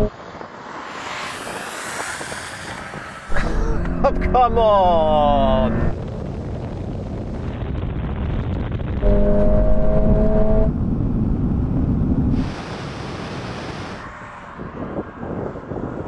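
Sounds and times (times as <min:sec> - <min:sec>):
engine and tyre rumble: 0:00.0 - 0:16.0
rush of wind noise: 0:00.0 - 0:16.0.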